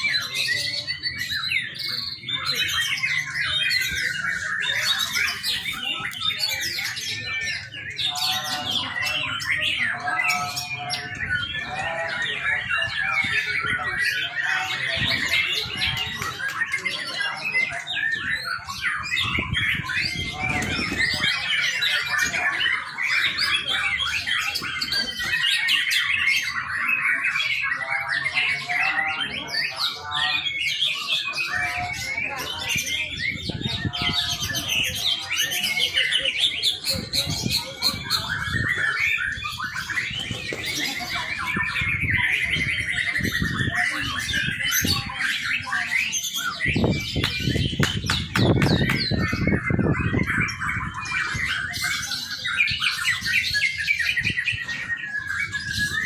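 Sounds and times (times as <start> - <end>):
bird singing chirps and trills: 0.0 - 56.0.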